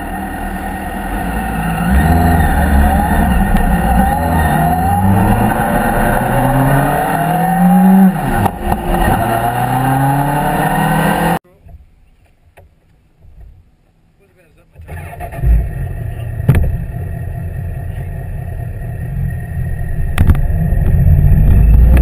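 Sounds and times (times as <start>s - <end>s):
motorcycle engine accelerating: 0.0s - 11.4s, 14.9s - 22.0s.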